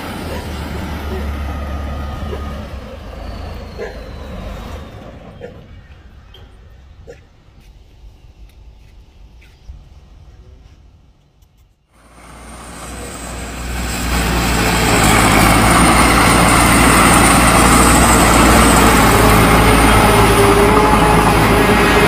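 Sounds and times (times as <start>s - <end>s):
tractor engine running: 0.0s - 9.5s, 11.2s - 22.0s.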